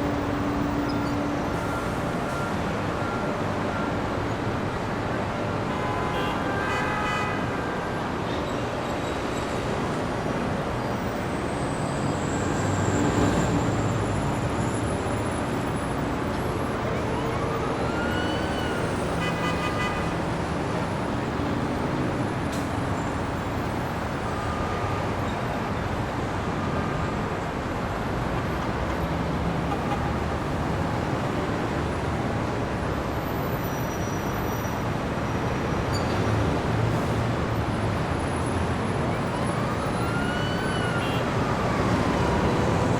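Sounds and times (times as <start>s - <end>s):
passing car traffic: 0.0s - 42.9s.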